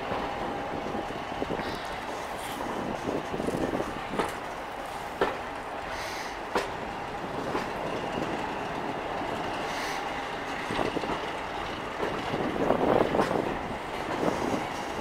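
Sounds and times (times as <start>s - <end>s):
train rolling rumble: 0.0s - 15.0s
wheels clacking over rail joints: 0.0s - 15.0s.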